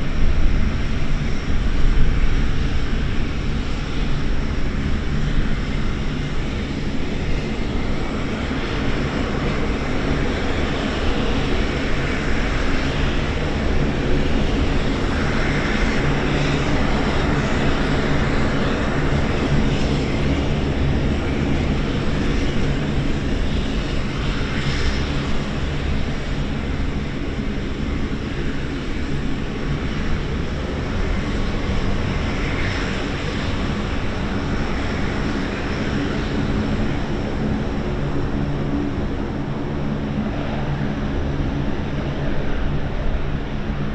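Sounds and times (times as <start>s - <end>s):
turboprop aircraft taxiing: 0.0s - 43.9s.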